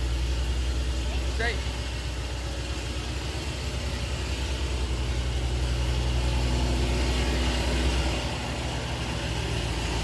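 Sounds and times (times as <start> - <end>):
car engine at low revs: 0.0 - 10.0.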